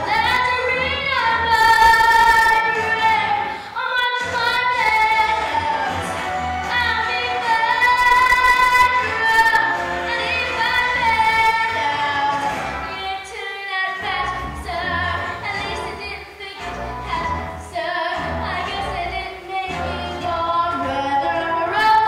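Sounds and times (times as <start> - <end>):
instrumental accompaniment: 0.0 - 13.3, 14.0 - 22.0
girl singing: 0.0 - 22.0.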